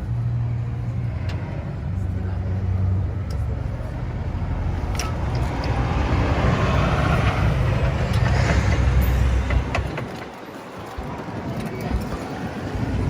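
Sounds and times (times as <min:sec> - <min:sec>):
motor vehicle rumbling: 0:00.0 - 0:13.0.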